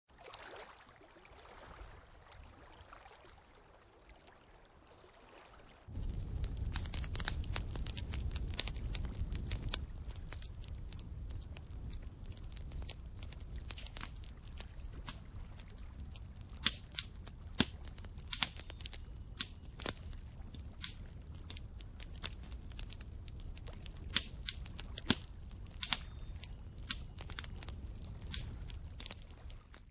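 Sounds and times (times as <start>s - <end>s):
campfire crackling and popping: 5.9s - 29.9s.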